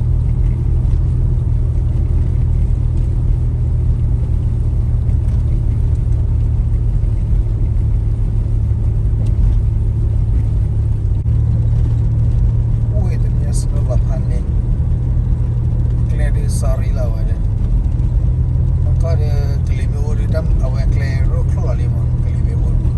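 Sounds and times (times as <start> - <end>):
car engine and road noise: 0.0 - 22.9.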